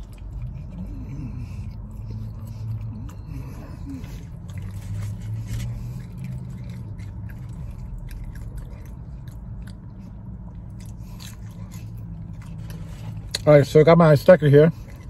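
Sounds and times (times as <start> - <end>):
chewing and biting burger: 0.0 - 15.0
steady low hum: 0.0 - 15.0.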